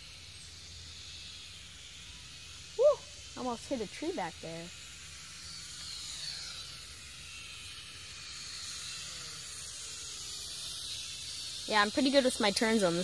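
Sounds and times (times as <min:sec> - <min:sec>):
toy drone motors whining: 0:00.0 - 0:13.0.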